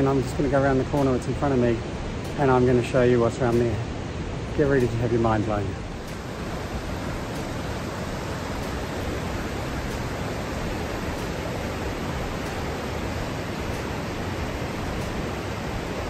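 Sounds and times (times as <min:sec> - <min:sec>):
mountain creek flowing over stones: 0:00.0 - 0:16.0.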